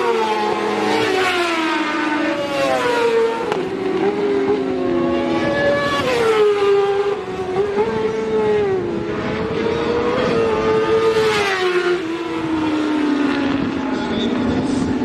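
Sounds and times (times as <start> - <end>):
racing motorcycle engines revving: 0.0 - 15.0.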